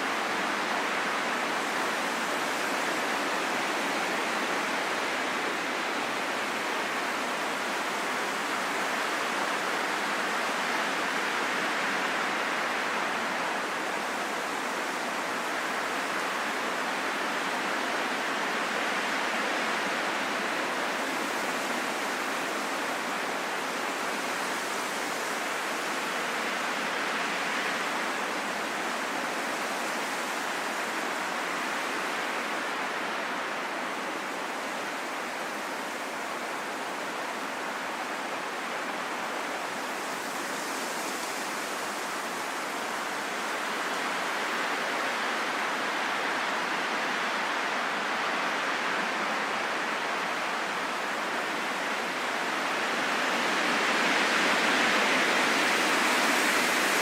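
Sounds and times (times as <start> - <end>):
steady wind hiss: 0.0 - 57.0.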